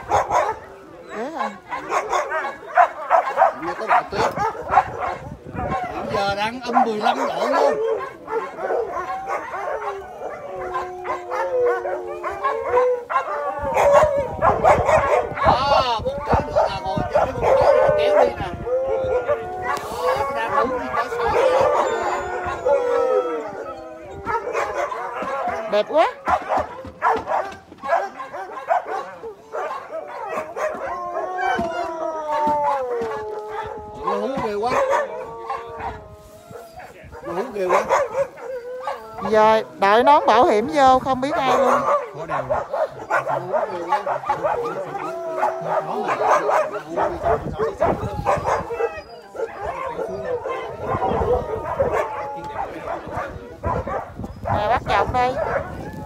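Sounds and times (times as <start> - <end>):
dog howling: 0.0 - 56.0
dogs barking and yipping: 0.0 - 56.0.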